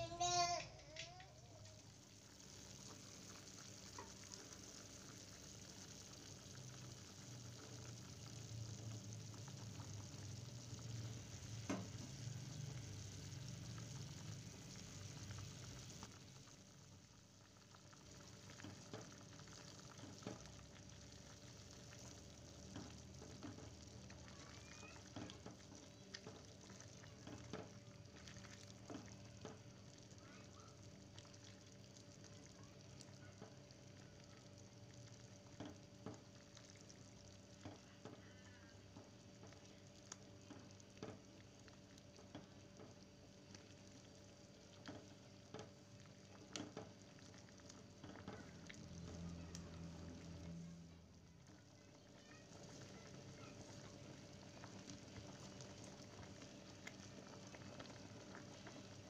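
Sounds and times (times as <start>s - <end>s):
soup bubbling in a pot: 0.9s - 59.0s.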